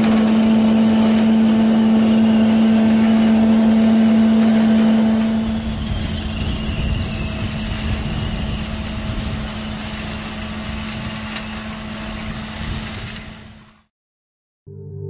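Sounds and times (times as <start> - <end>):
harvester machine droning: 0.0 - 13.8.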